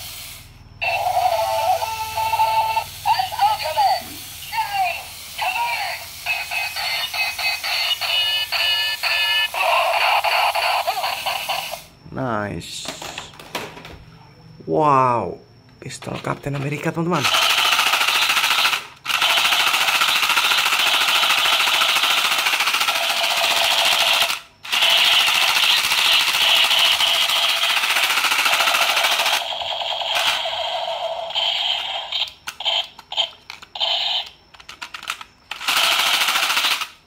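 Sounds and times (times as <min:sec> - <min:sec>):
toy gun machine-gun sound effect: 0:00.2 - 0:11.9, 0:17.1 - 0:37.0.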